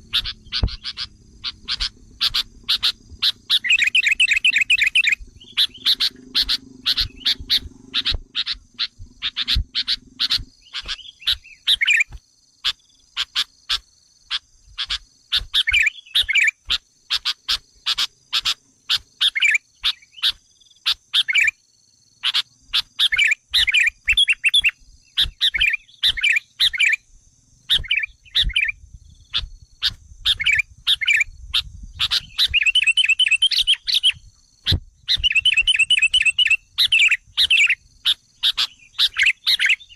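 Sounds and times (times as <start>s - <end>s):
bird chirps and song: 0.0s - 21.6s, 22.2s - 39.9s.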